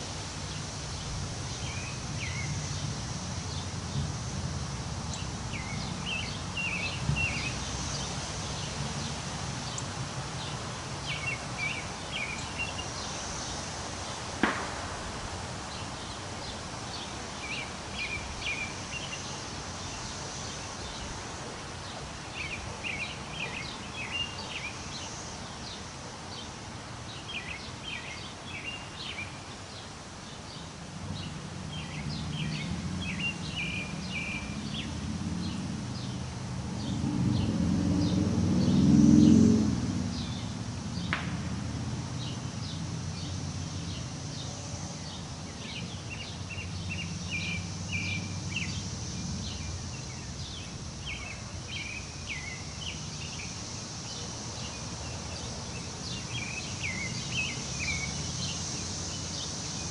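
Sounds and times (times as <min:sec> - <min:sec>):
small birds chirping: 0:00.0 - 0:14.6, 0:15.6 - 0:39.4, 0:42.2 - 0:59.9
wind through trees: 0:00.0 - 0:59.9.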